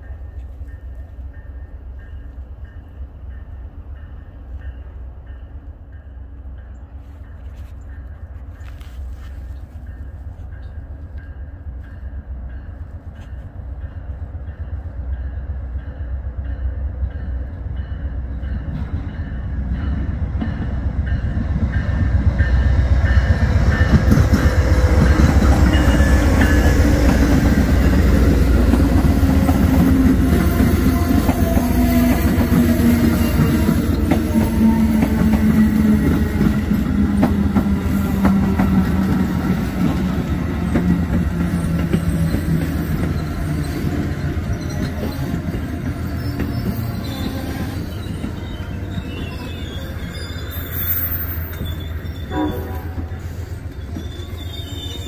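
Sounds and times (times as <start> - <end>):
diesel freight train passing: 0.0 - 55.0.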